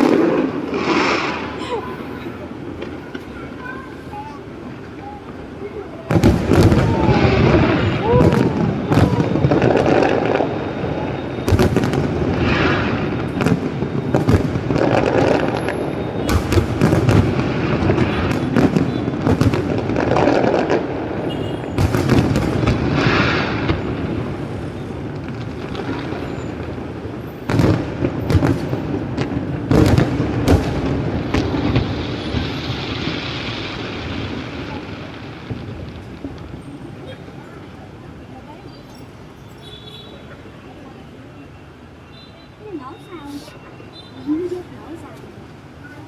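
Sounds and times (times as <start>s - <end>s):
fireworks bangs and booms: 0.0s - 46.0s.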